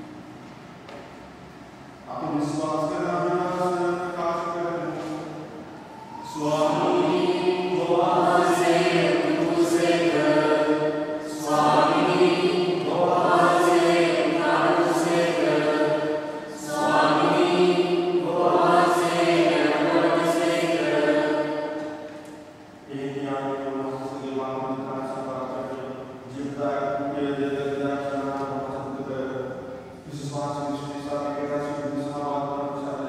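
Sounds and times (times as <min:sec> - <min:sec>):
person chanting a prayer: 0:02.1 - 0:22.1, 0:22.9 - 0:33.0.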